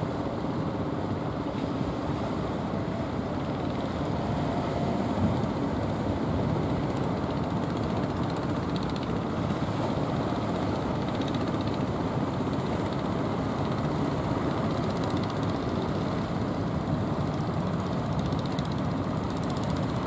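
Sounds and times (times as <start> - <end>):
boat engines pulsing: 0.0 - 20.0.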